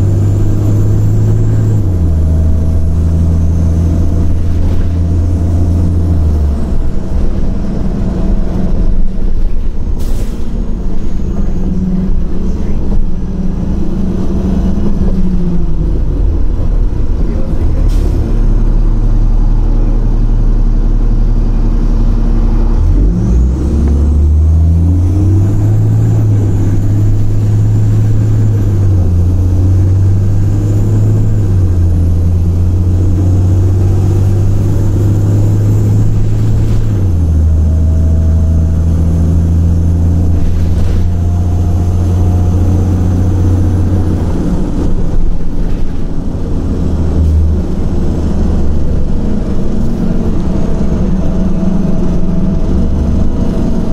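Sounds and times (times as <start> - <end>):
bus diesel engine: 0.0 - 53.9.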